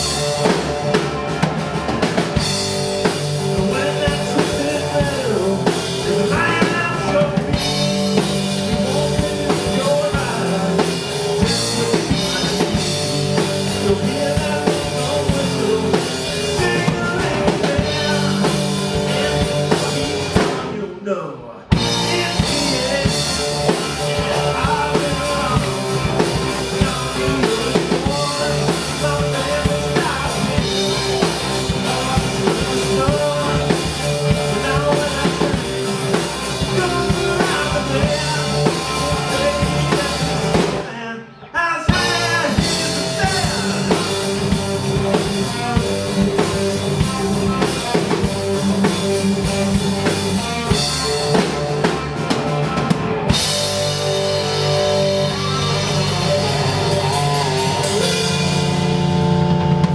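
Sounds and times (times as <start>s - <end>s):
drum kit: 0.0s - 20.8s, 21.7s - 41.0s, 41.9s - 59.9s
electric guitars: 0.0s - 20.8s, 21.7s - 59.9s
bass guitar: 0.0s - 59.9s.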